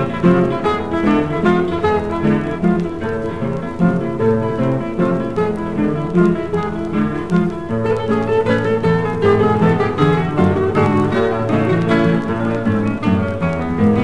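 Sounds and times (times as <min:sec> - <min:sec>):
bowed strings: 0:00.0 - 0:14.0
plucked guitars: 0:00.0 - 0:14.0.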